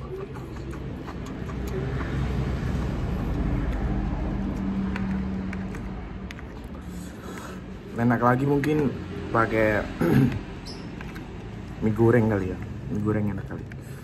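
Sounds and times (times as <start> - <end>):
vehicle engine rumble driving past: 0.4 - 12.9.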